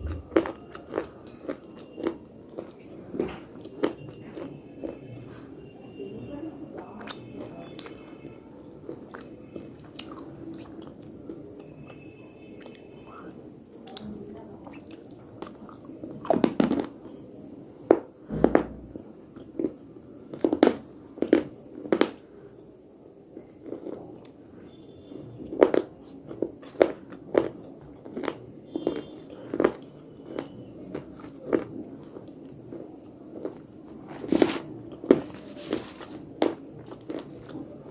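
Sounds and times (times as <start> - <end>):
soft chewing: 0.0 - 37.9.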